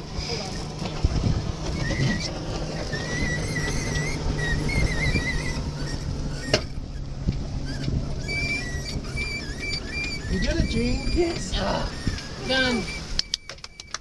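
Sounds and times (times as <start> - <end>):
water noise: 0.0 - 14.0
wind: 0.0 - 14.0
rope squeaking on sailboat hardware: 0.2 - 14.0.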